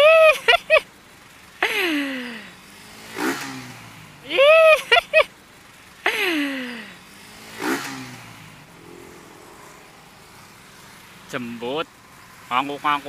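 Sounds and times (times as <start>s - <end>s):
traffic engines and tyres hum: 0.0s - 13.0s.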